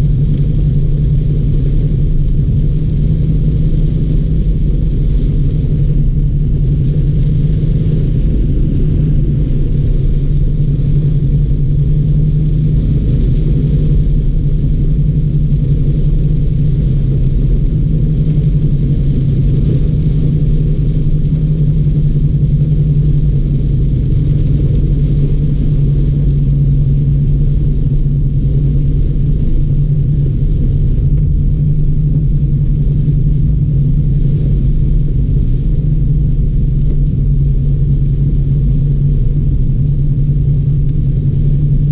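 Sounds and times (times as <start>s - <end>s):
car engine and road noise rumble: 0.0s - 41.9s
rain hissing: 0.2s - 41.9s.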